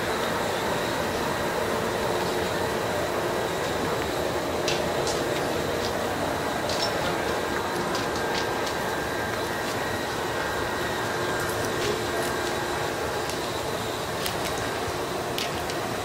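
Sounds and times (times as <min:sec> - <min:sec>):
parked electric train humming: 0:00.0 - 0:16.0.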